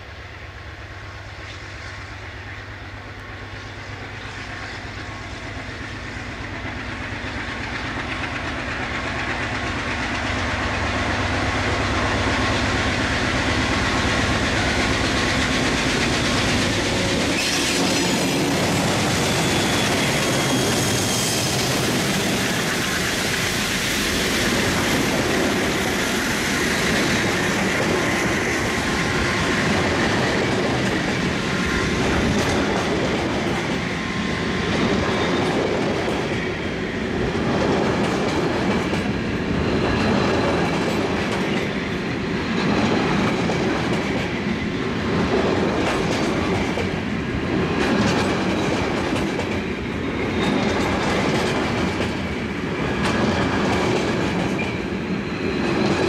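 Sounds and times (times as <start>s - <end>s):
train wheels clacking on rails: 2.5s - 56.0s.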